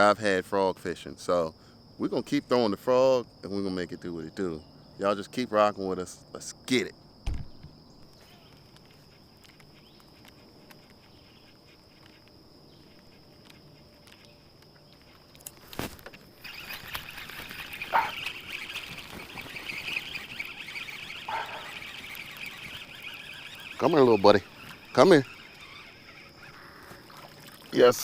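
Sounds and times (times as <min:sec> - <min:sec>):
insect buzzing chorus: 0:00.0 - 0:28.0
insect high-pitched trill: 0:00.0 - 0:28.0.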